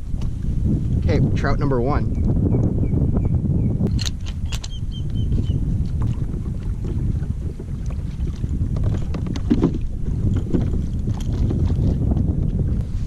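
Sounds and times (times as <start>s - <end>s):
water moving along hull: 0.0s - 13.0s
wind rumbling on microphone: 0.0s - 13.0s.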